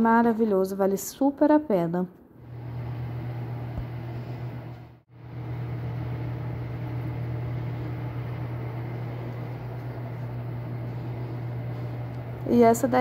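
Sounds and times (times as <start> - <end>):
low mechanical hum: 2.4 - 13.0.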